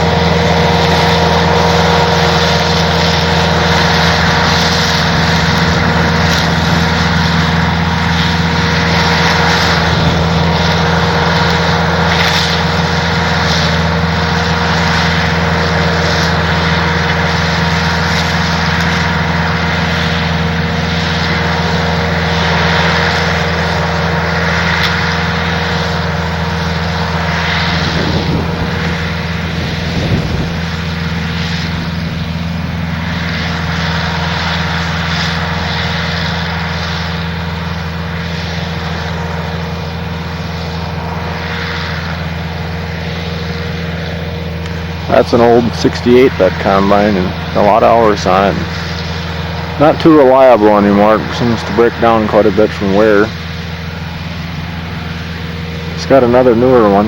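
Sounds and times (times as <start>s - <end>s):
combine harvester droning: 0.0s - 57.0s.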